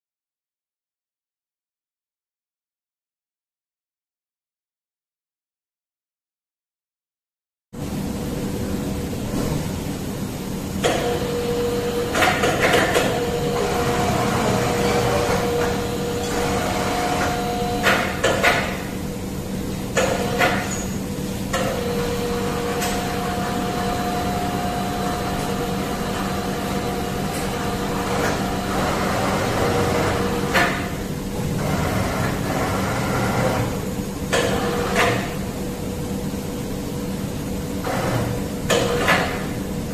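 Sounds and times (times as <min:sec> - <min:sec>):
machine humming with tones: 0:07.8 - 0:39.9.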